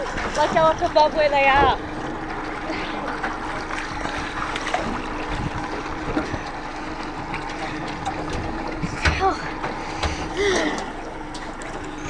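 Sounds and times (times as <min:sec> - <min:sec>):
outboard motor idling: 0:00.0 - 0:12.0
water lapping against hull: 0:00.0 - 0:12.0.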